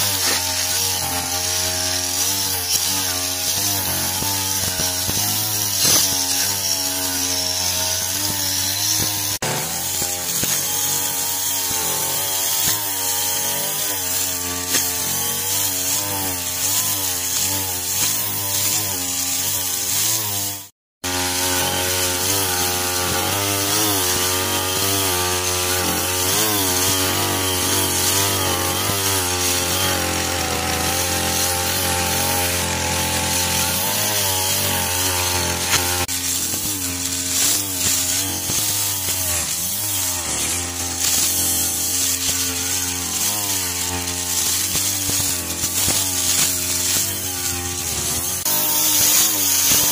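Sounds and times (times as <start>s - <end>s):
brush cutters cutting grass: 0.0s - 49.9s.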